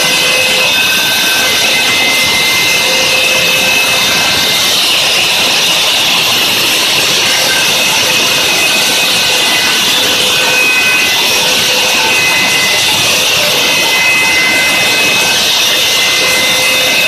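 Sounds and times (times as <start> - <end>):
cnc spindle whining: 0.0 - 17.0.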